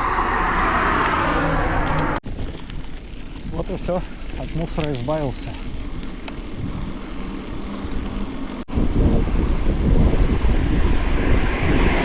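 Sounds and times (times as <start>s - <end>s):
road noise: 0.0s - 12.0s
wind rumbling on microphone: 0.0s - 12.0s.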